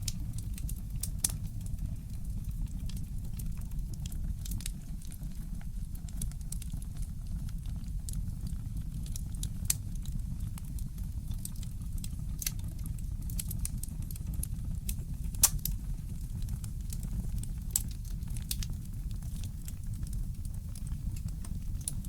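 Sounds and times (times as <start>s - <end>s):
fire pops and snaps: 0.0s - 22.0s
low fire rumble: 0.0s - 22.0s
wood fire crackling: 0.0s - 22.0s.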